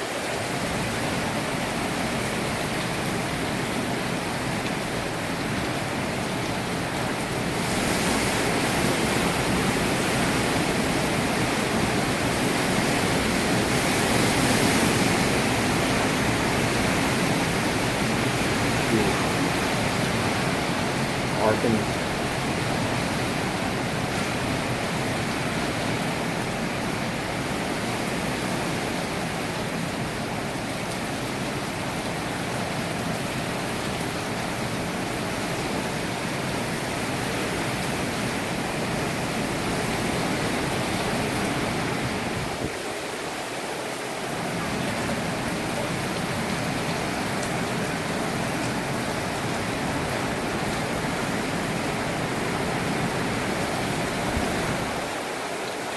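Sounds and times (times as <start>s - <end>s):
hurricane wind and rain: 0.0s - 55.9s.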